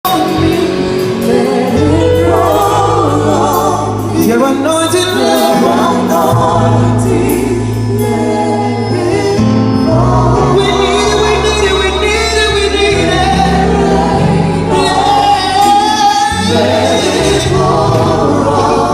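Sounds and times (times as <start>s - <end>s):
held bass notes: 0.0s - 18.9s
voices singing: 0.1s - 18.9s.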